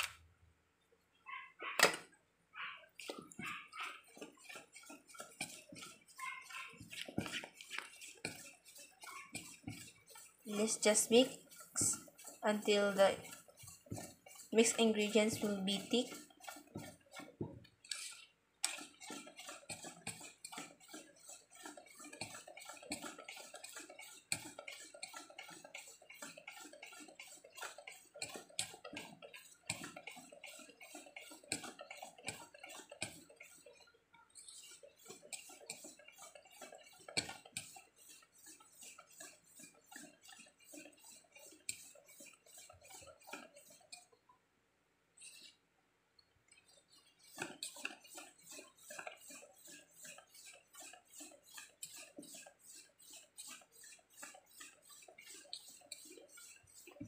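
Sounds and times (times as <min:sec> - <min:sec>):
whisk beating batter in metal bowl: 0:03.0 - 0:44.3, 0:45.2 - 0:45.6, 0:46.5 - 0:57.0.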